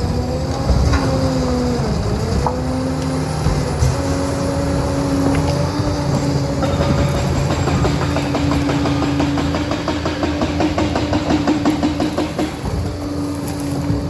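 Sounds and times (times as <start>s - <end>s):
diesel engine humming: 0.0s - 14.0s
steel tracks clattering: 0.0s - 14.0s.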